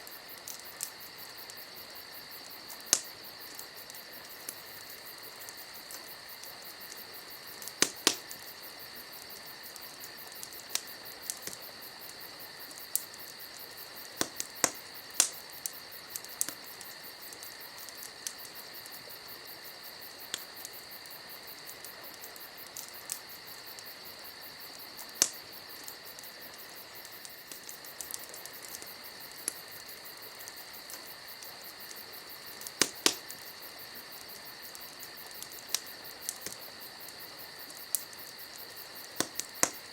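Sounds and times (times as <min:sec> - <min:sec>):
campfire pops and crackles: 0:00.0 - 0:39.9
crickets chirring: 0:00.0 - 0:39.9.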